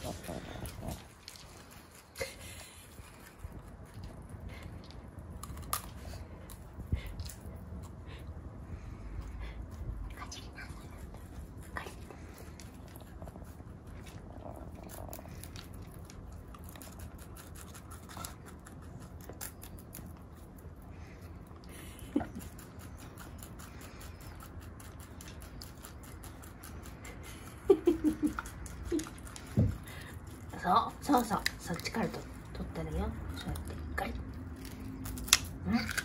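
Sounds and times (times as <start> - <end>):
animals crunching carrot: 0.0 - 36.0.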